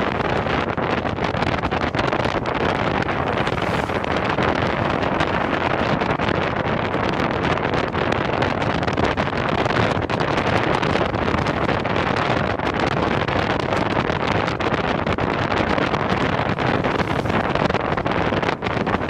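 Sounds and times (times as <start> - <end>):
road noise: 0.0 - 19.0
wind buffeting microphone: 0.0 - 19.0.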